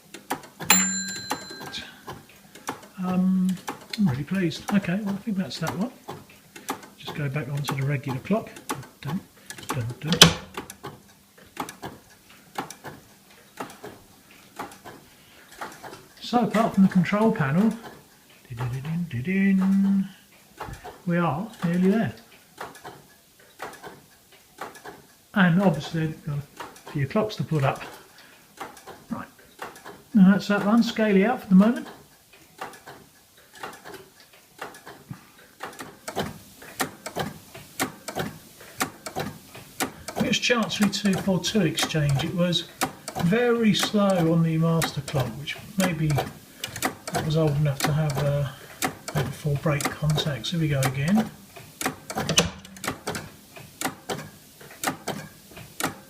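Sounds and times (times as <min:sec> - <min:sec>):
clock relays clicking: 0:00.0 - 0:56.0.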